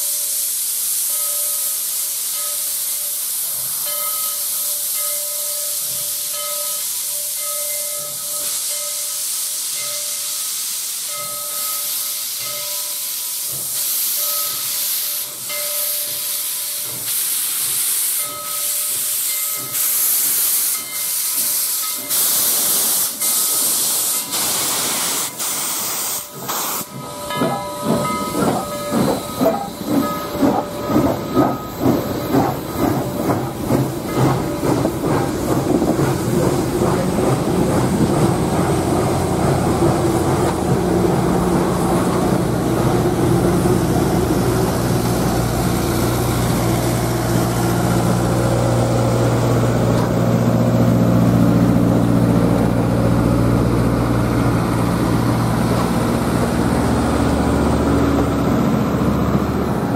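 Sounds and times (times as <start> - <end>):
steam hissing: 0.0 - 59.9
steam locomotive exhaust chuffs: 0.0 - 59.9
train cars rumbling on rails: 10.5 - 59.9.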